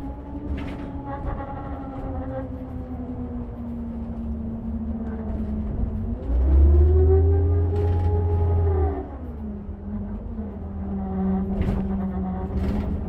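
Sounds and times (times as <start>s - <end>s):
engine and cooling fan whine: 0.0s - 13.0s
heavy low engine rumble: 0.0s - 13.0s.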